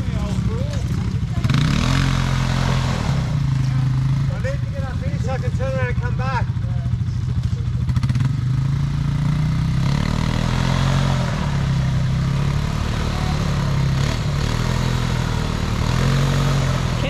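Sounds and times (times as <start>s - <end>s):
small dirt bike engine running: 0.0s - 17.0s.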